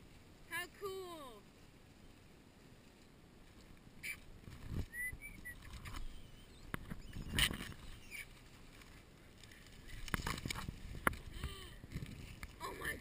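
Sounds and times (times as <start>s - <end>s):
animals rustling in dry leaves: 1.4s - 13.0s.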